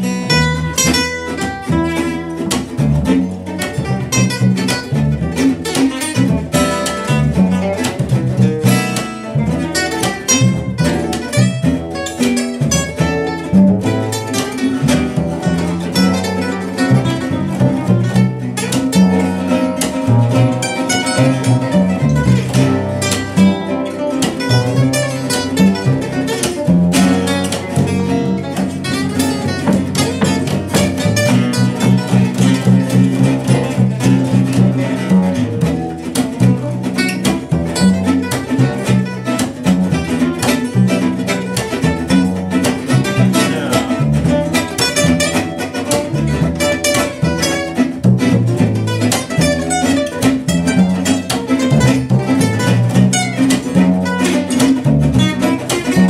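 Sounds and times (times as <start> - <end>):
acoustic guitars picking: 0.0 - 56.0
plucked double bass: 0.0 - 56.0.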